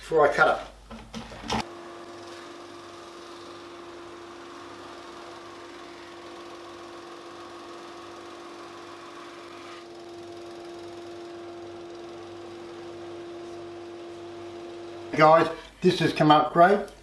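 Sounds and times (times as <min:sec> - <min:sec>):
sander motor running: 0:01.6 - 0:15.6.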